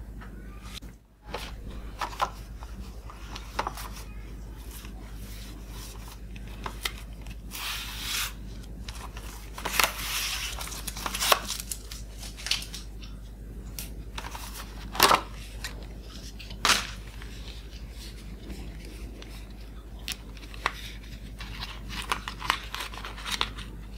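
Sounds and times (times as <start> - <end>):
plastic wrap crinkling and tearing: 1.3 - 13.1, 14.2 - 23.9.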